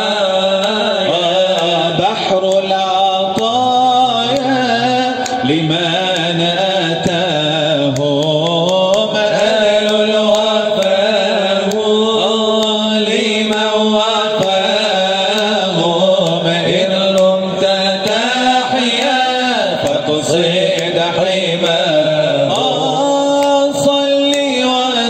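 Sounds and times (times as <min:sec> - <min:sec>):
man chanting: 0:00.0 - 0:25.0.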